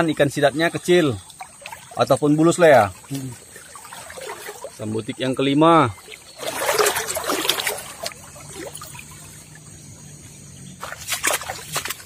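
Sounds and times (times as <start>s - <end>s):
footsteps splashing in shallow water: 0.0s - 12.0s
water sloshing around wader: 0.0s - 12.0s.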